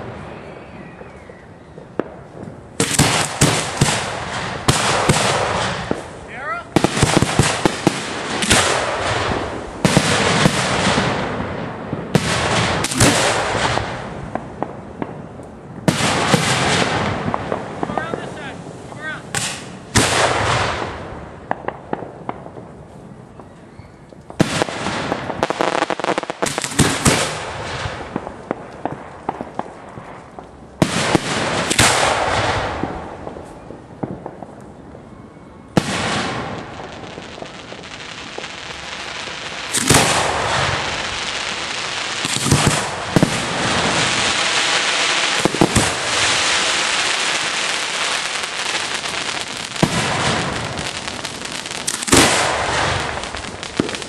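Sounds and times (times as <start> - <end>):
fireworks blasts: 0.0 - 54.0
fireworks hissing and crackling: 0.0 - 54.0
sharp cracks: 1.8 - 22.7, 24.0 - 34.7, 35.8 - 54.0.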